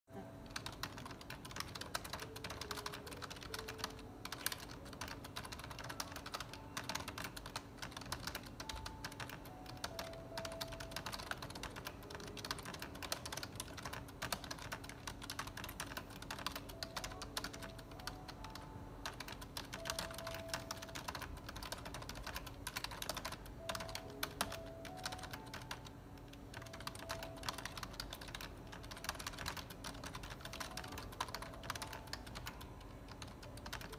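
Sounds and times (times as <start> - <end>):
fast typing on keyboard: 0.4 - 33.9.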